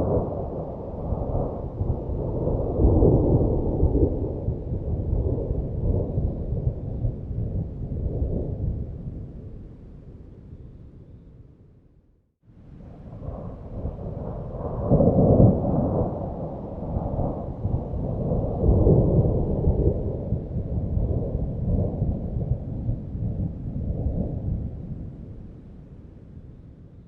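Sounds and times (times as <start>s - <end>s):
thunder rumbling: 0.0s - 9.8s, 12.8s - 25.6s.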